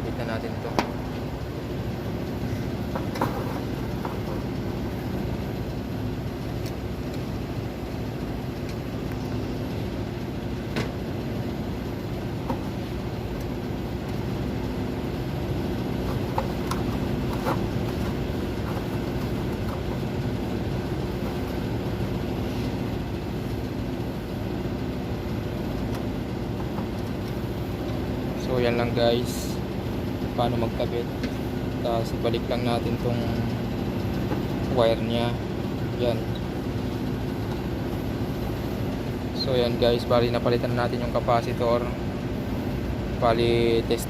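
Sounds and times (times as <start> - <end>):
machine hum: 0.0 - 44.0.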